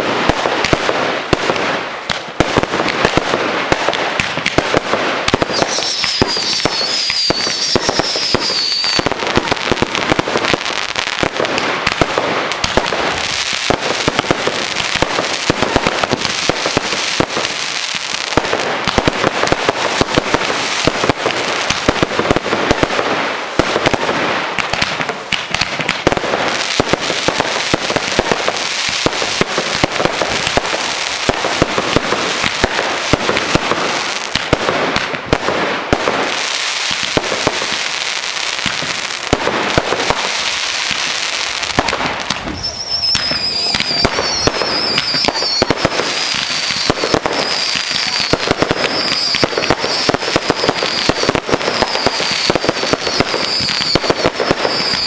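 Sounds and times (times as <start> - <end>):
fireworks bangs and cracks: 0.0 - 55.0
fireworks fizzing: 0.0 - 55.0.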